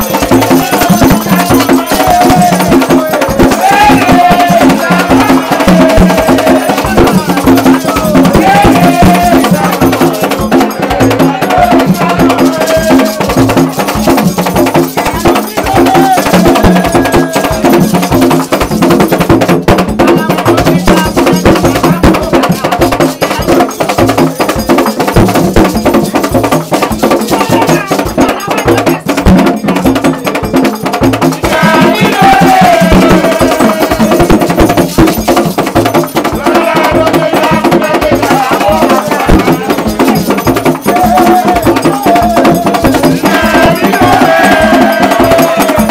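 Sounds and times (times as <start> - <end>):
voices singing: 0.0 - 19.2, 20.0 - 45.9
drum ensemble playing fast rhythm: 0.0 - 45.9.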